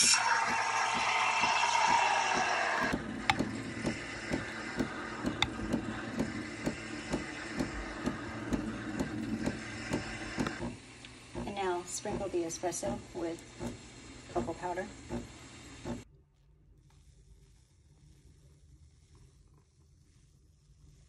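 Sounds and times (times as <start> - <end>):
steam wand hissing frothing milk: 0.0 - 16.0, 16.9 - 21.0.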